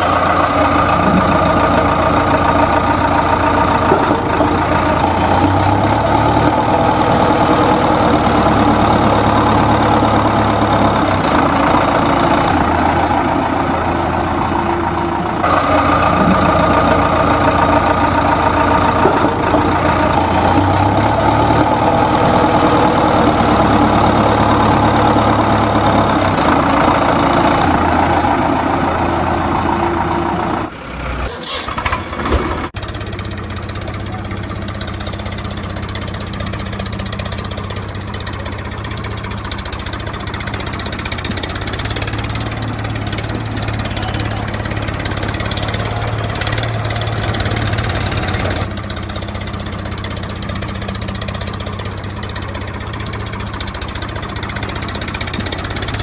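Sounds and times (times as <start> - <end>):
engine idling sound effect: 0.0 - 56.0.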